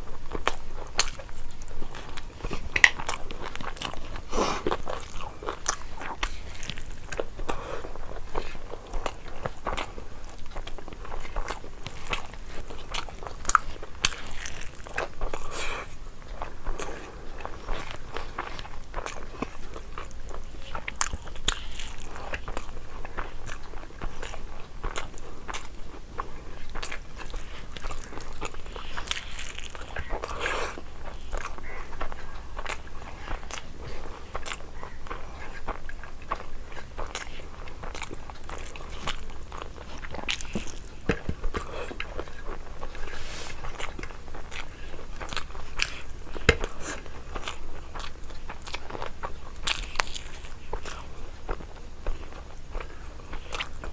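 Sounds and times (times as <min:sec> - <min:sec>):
person chewing food: 0:00.0 - 0:53.9.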